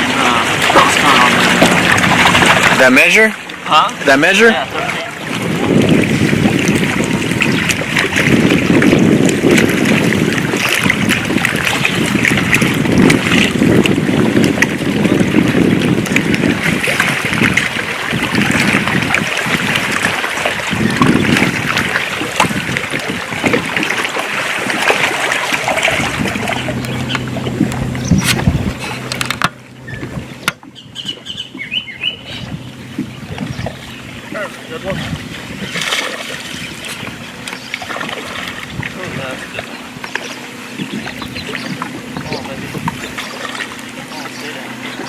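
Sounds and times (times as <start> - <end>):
low steady hum: 0.0 - 45.0
water lapping against kayak: 0.0 - 45.0
wind buffeting microphone: 0.0 - 45.0.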